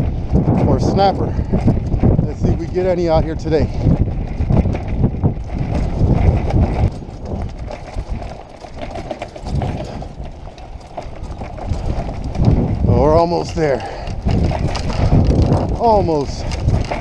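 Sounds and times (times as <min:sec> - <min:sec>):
bicycle tyres rumbling on gravel: 0:00.0 - 0:17.0
bike knocks and rattles: 0:00.0 - 0:17.0.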